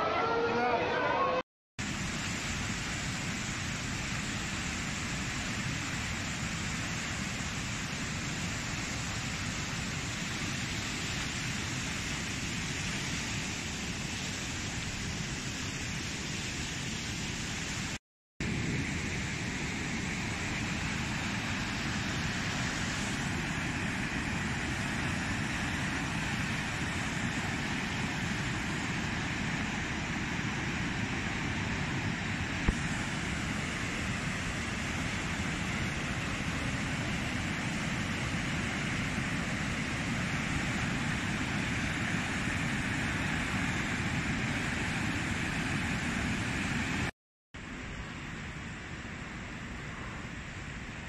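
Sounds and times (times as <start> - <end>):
floodwater rushing: 1.8 - 47.1.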